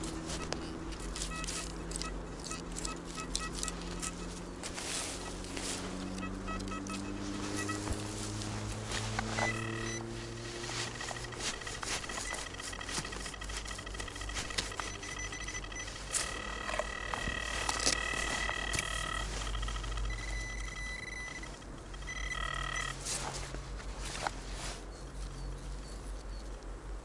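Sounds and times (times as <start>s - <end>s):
metal detector high-pitched tones: 0.2s - 23.0s.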